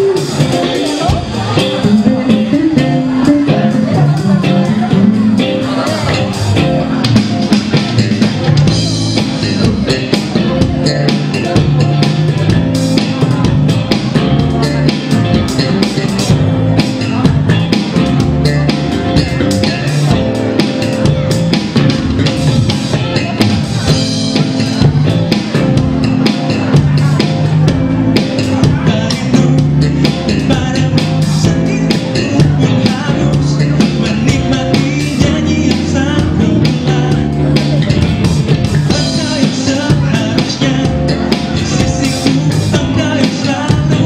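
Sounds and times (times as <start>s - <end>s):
drum kit beating: 0.0s - 44.0s
live band playing: 0.0s - 44.0s.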